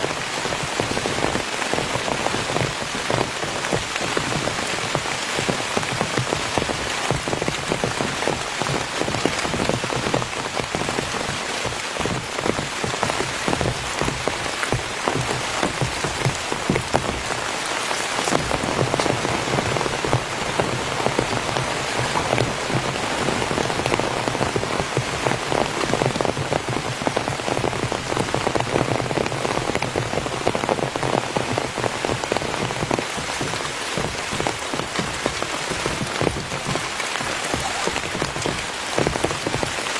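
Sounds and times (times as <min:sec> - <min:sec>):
heavy rain drumming on a tent: 0:00.0 - 0:39.9.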